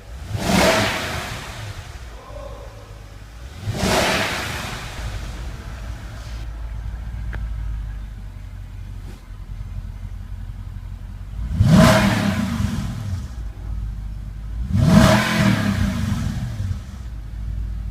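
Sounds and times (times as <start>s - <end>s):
car engine idling and revving: 0.0s - 17.9s.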